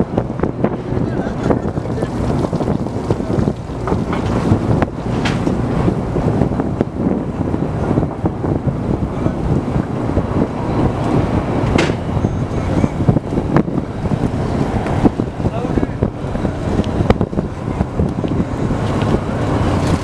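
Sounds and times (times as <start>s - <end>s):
boat engine rumble: 0.0s - 20.0s
wind buffeting microphone: 0.0s - 20.0s.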